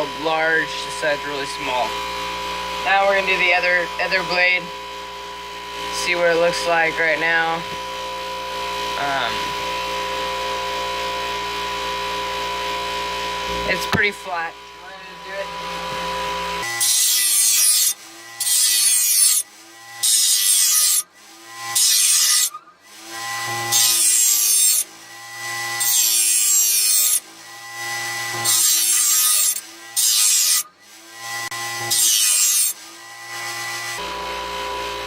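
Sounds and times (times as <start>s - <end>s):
grinder motor humming: 0.0s - 35.0s
grinding wheel grinding steel blade: 0.0s - 35.0s.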